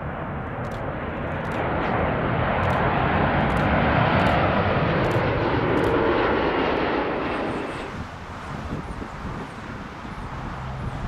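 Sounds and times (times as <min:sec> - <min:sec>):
jet airliner passing: 0:00.0 - 0:11.0.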